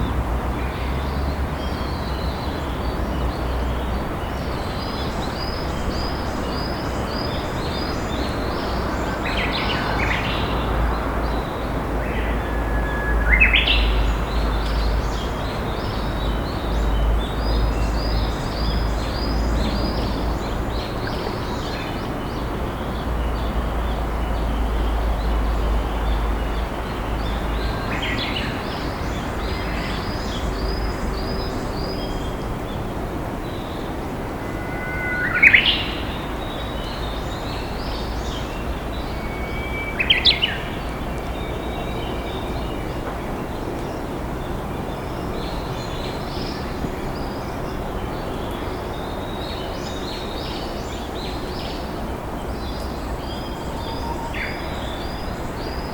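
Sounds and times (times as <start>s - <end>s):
river flowing: 0.0s - 55.9s
songbirds singing: 0.0s - 55.9s.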